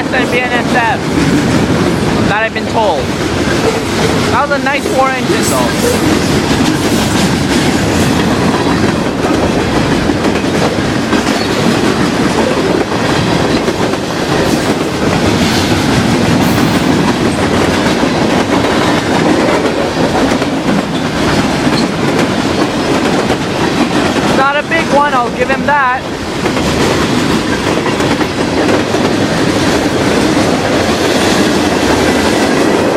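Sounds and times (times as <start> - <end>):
steel wheels rumbling on rails: 0.0 - 32.9.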